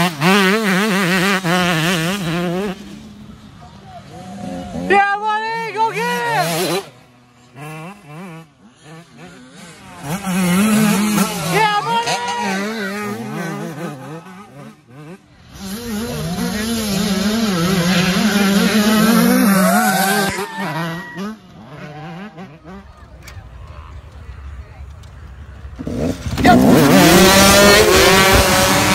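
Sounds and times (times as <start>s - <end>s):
dirt bike engines revving: 0.0s - 28.9s.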